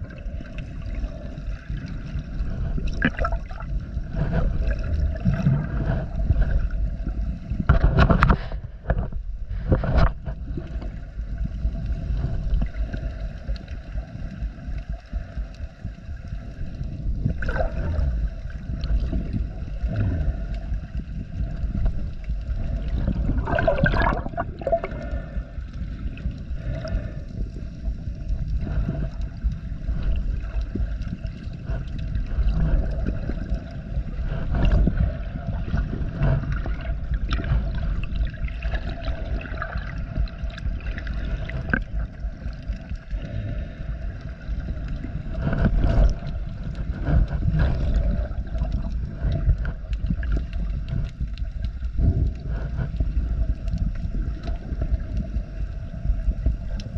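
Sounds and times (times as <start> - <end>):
bubbling and sloshing strokes: 0.0 - 56.9
underwater moving water rumble: 0.0 - 56.9.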